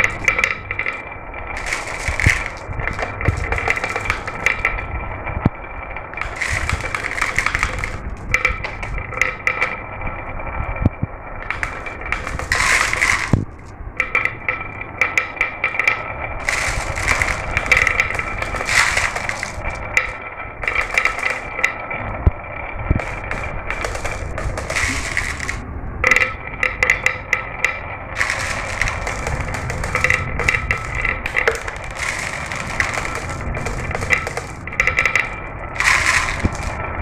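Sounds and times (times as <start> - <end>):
marbles rattling down marble run: 0.0 - 37.0.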